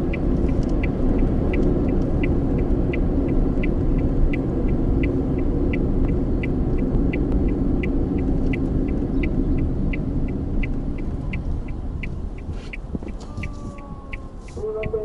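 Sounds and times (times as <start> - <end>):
turn signal ticking: 0.0 - 15.0
vehicle driving rumble: 0.0 - 15.0.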